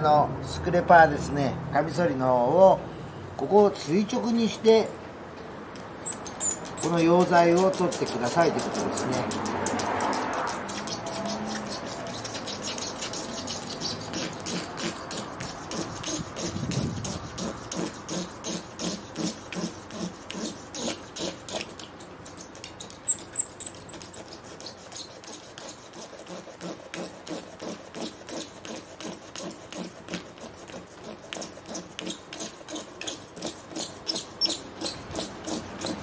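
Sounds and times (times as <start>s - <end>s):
razor blade scraping glass: 6.0s - 36.0s.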